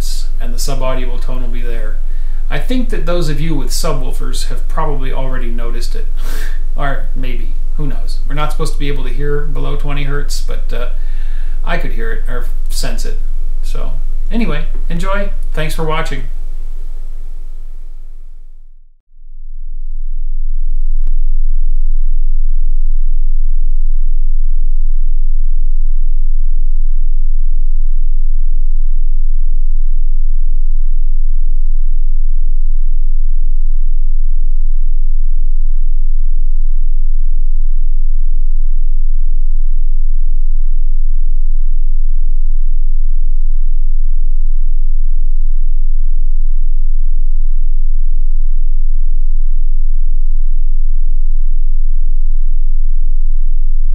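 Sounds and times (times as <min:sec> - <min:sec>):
low infrasonic sine tone: 0:00.0 - 0:53.9.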